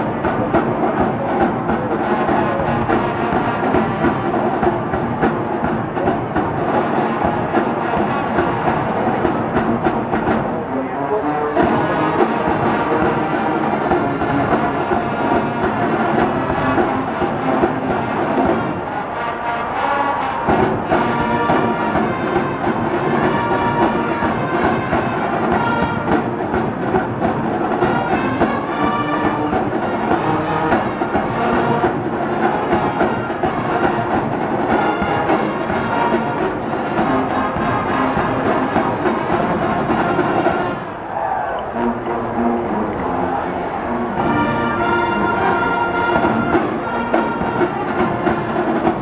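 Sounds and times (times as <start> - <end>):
marching band playing: 0.0 - 49.0.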